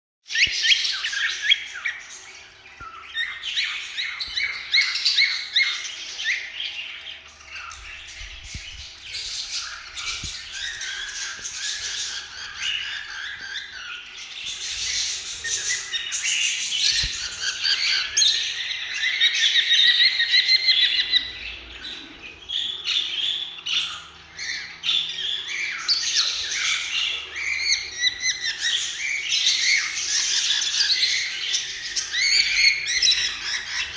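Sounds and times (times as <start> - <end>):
cockatiel chirping and squawking: 0.3 - 33.9.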